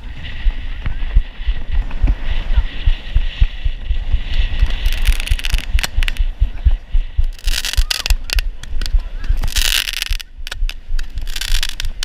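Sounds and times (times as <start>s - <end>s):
fireworks hissing and cracking: 0.0s - 12.0s
rapid low thumping: 0.0s - 12.0s.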